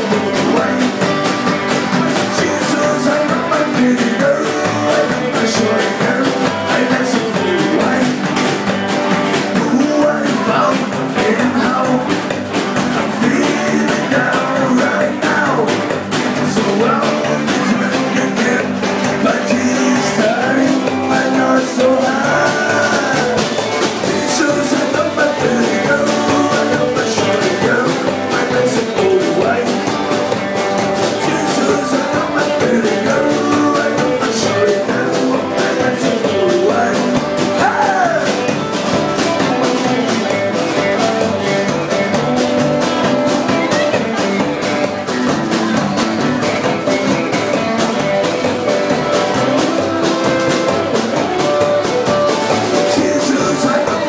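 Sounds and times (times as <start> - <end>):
live rock and roll band: 0.0 - 54.0.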